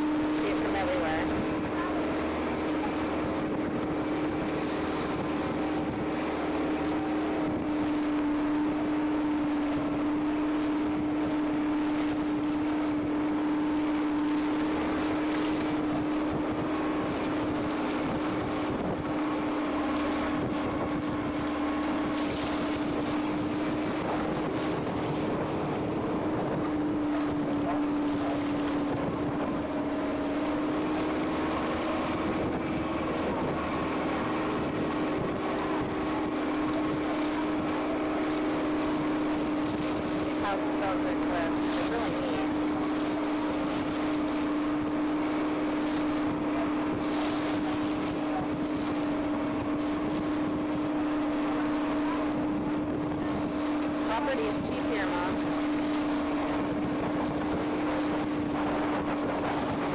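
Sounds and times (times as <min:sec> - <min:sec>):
boat engine droning: 0:00.0 - 0:59.9
rushing water: 0:00.0 - 0:59.9
wind: 0:00.0 - 0:59.9.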